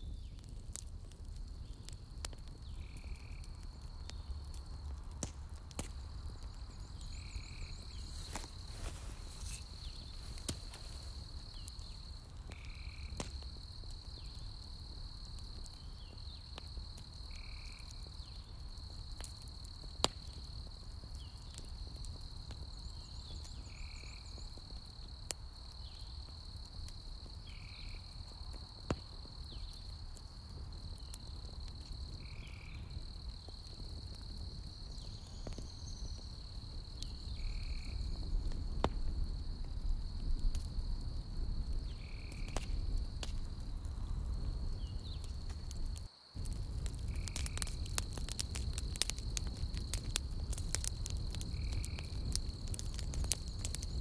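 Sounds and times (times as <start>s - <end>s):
campfire crackling and popping: 0.0s - 54.0s
insect trill: 2.6s - 5.0s, 6.0s - 54.0s.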